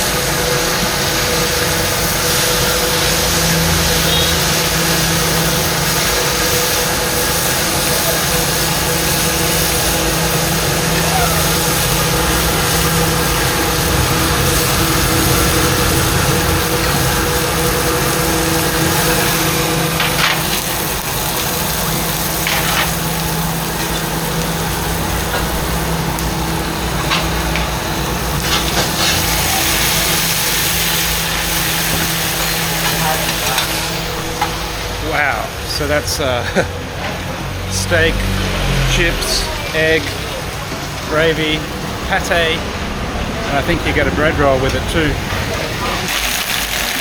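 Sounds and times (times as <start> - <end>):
constant rushing noise: 0.0 - 47.0
machine hum: 0.0 - 47.0.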